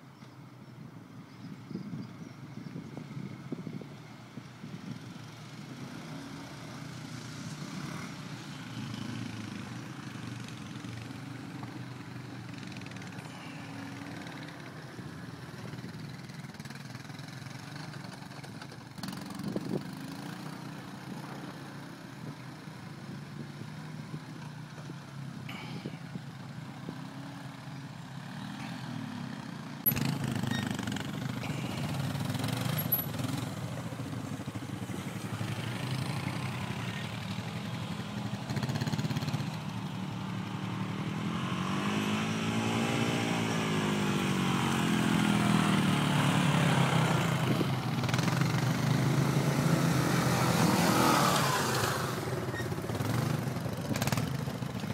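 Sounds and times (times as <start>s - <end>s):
quad bike engines droning: 0.0s - 54.9s.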